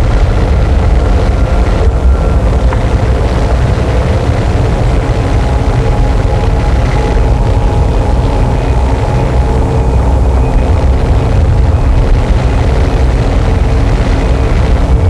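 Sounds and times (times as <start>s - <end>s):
faint steady humming tones: 0.0s - 15.0s
rumbling distorted noise: 0.0s - 15.0s.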